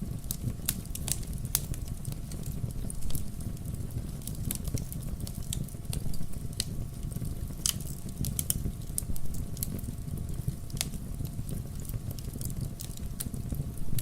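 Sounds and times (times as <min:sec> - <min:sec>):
logs crackling and popping: 0:00.0 - 0:14.0
low rumble of flame: 0:00.0 - 0:14.0.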